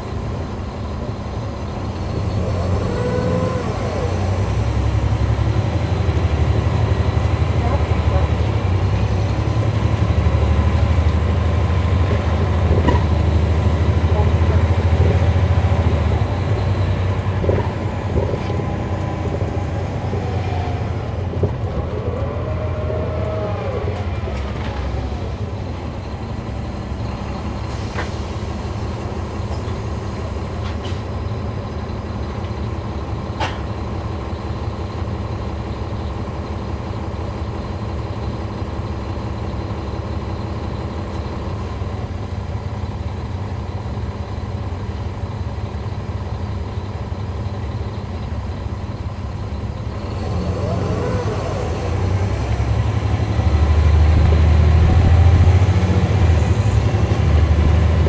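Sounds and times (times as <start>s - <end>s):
bus diesel engine running: 0.0s - 58.0s
engine whine: 0.0s - 58.0s.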